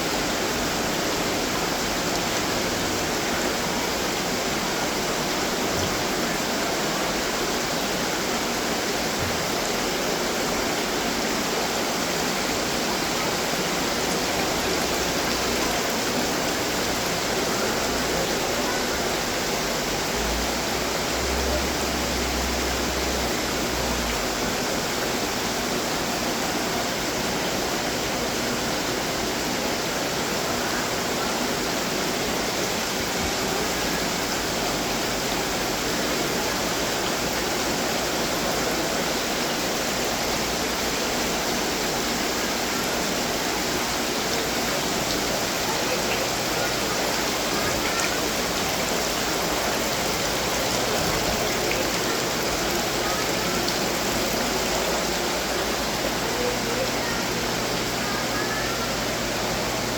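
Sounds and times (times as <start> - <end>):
water splashing from fountains: 0.0 - 59.9.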